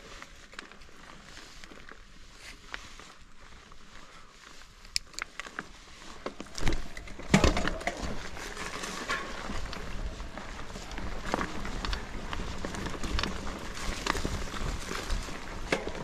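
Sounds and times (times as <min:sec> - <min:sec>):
bike rattle and rolling: 0:00.0 - 0:04.0, 0:04.6 - 0:16.0.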